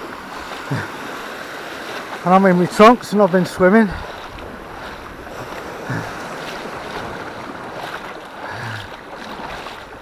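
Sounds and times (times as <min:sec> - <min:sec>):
small waves washing on shore: 0:00.0 - 0:10.0.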